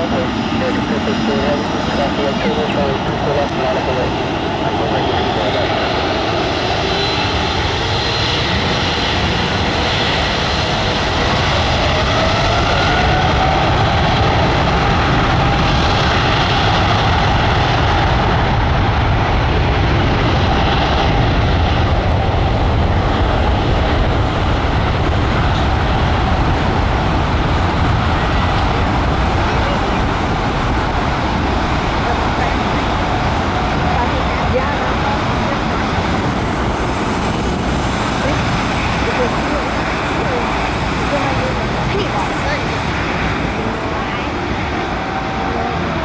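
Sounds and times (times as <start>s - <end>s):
jet engines at takeoff power: 0.0s - 46.0s.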